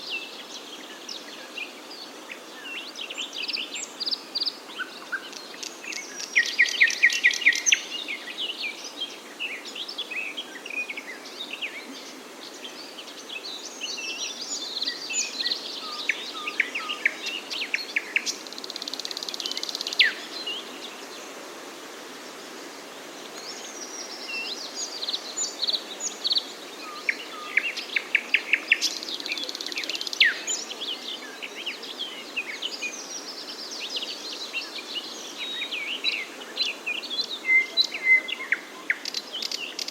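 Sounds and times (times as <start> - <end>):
songbirds chirping and singing: 0.0 - 21.4, 23.2 - 39.9
outdoor hiss: 0.0 - 39.9.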